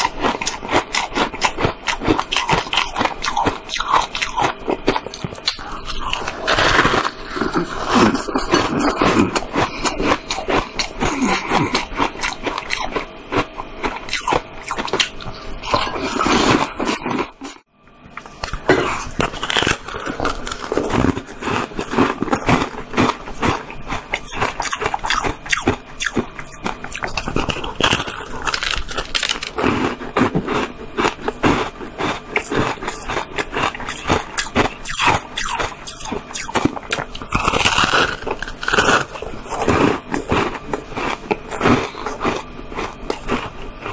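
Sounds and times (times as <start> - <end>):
crunching and chewing shaved ice: 0.0 - 43.9.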